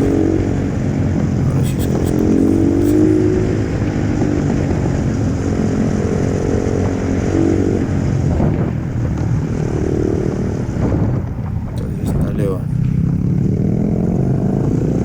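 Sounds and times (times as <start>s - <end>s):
small motorbike engine revving: 0.0s - 11.3s, 12.6s - 15.0s.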